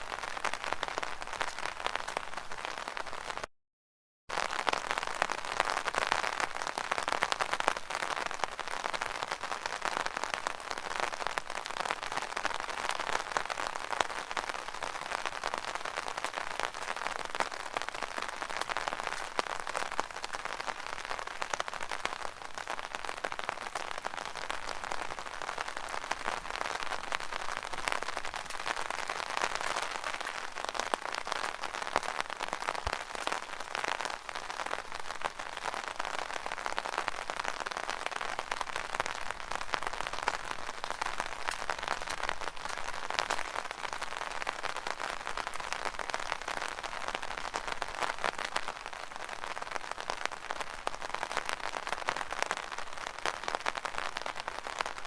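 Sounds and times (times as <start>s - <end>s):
rain on an umbrella: 0.0s - 3.5s, 4.3s - 55.0s.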